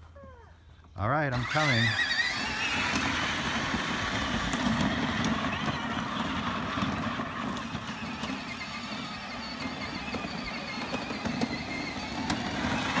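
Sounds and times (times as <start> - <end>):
toy ride-on motors whirring: 1.3 - 13.0.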